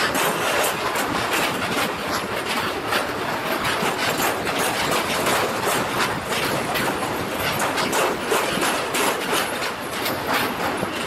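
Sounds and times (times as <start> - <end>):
wheels clattering over rail joints: 0.0 - 11.0.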